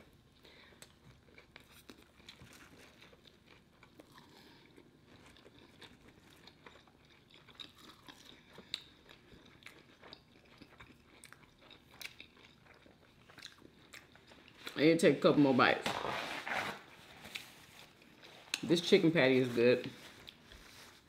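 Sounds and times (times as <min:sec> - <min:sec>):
person chewing food: 0:00.0 - 0:14.8, 0:17.1 - 0:18.7, 0:19.8 - 0:21.0.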